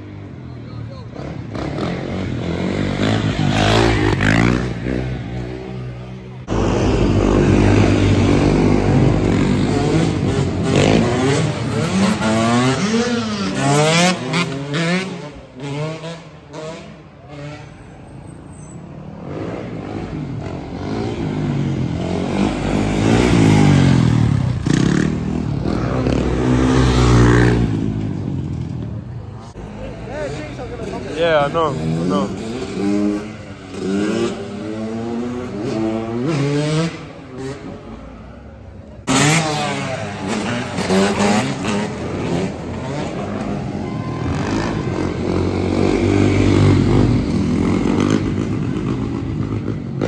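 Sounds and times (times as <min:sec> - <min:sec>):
motorbike engines revving: 0:00.0 - 0:50.0.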